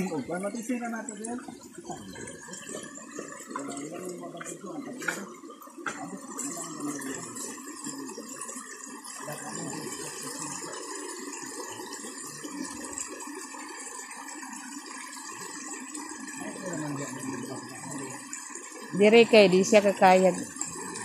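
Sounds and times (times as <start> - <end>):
stream running over gravel: 0.0 - 21.0.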